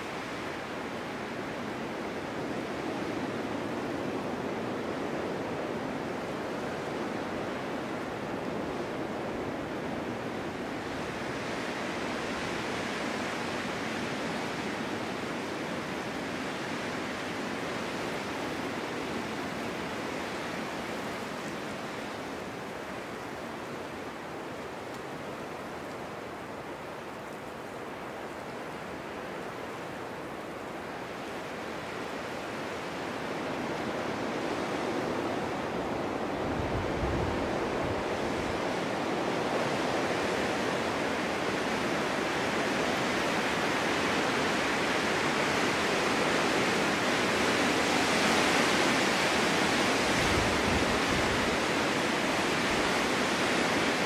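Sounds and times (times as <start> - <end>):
wind blowing: 0.0 - 54.0.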